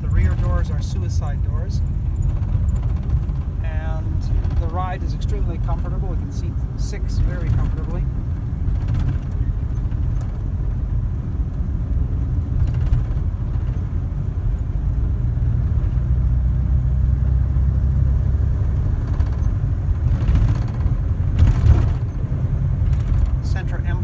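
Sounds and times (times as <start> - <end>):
car engine running: 0.0 - 24.0
road noise: 0.0 - 24.0.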